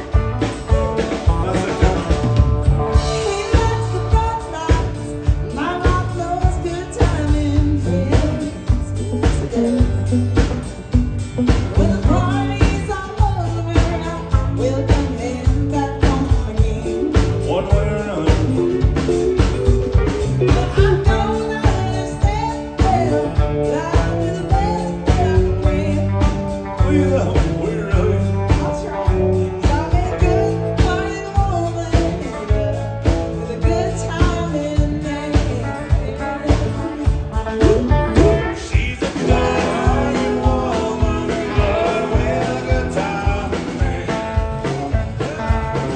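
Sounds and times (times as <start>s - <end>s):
acoustic guitar: 0.0s - 45.9s
drum kit beat: 0.0s - 45.9s
electric bass: 0.0s - 45.9s
person singing: 0.0s - 45.9s.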